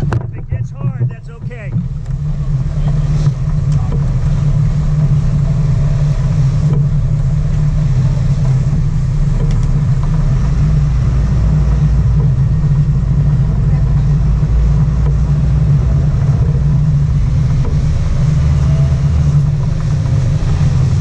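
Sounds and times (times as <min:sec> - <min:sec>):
boat engines rumbling: 0:00.0 - 0:21.0.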